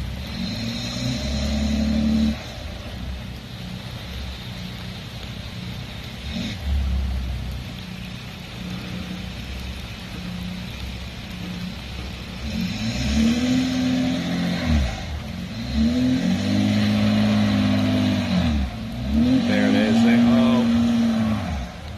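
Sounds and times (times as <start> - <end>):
vehicle engine revving: 0.0 - 4.9, 6.1 - 21.9.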